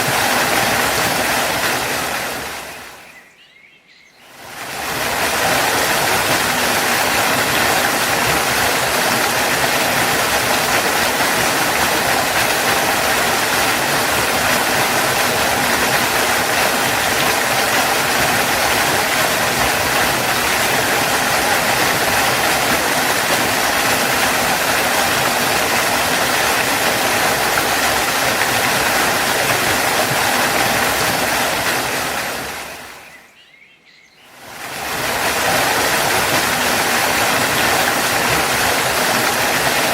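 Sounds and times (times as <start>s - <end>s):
waterfall rushing: 0.0s - 33.4s, 34.2s - 39.9s.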